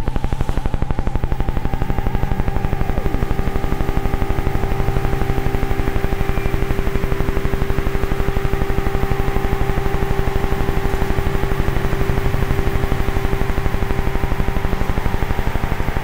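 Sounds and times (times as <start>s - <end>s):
pulsing electronic music: 0.0s - 16.0s.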